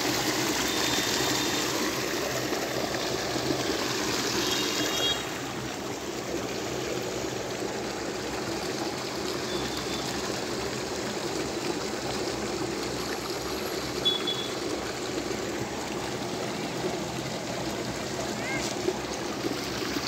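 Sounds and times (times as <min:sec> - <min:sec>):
rushing turbulent water: 0:00.0 - 0:20.0.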